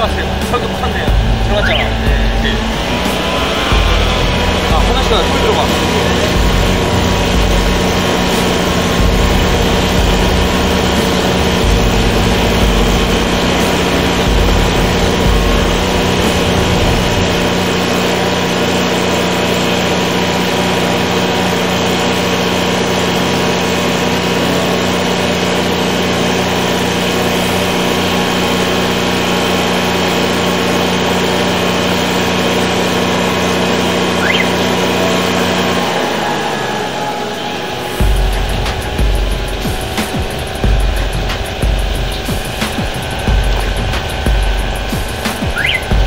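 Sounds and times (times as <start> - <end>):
engine humming steadily: 0.0 - 46.0.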